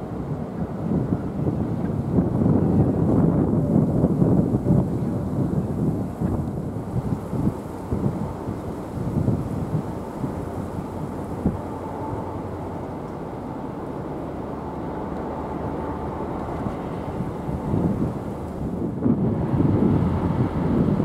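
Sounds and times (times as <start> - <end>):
diesel locomotive rumble: 0.0 - 21.0
wind on microphone: 0.0 - 21.0.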